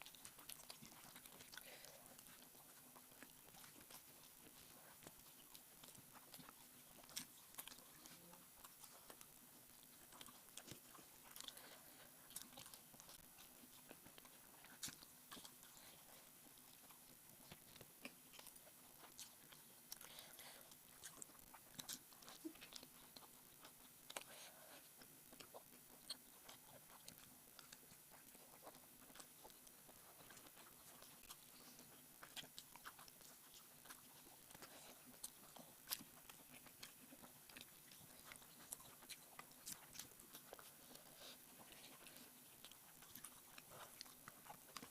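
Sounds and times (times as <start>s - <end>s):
person chewing food: 0.0s - 44.9s.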